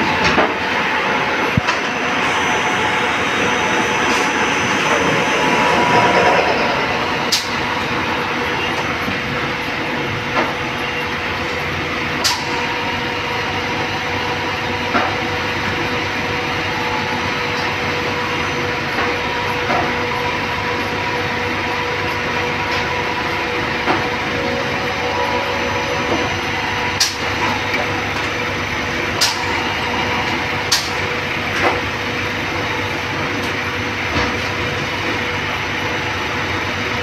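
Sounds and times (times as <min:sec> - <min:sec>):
lathe machine noise with whine: 0:00.0 - 0:37.0.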